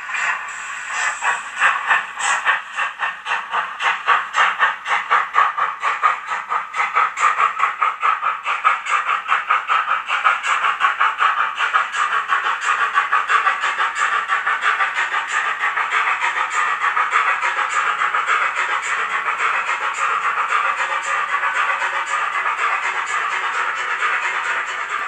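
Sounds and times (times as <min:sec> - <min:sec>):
model train steam chuffs: 0:00.0 - 0:25.0.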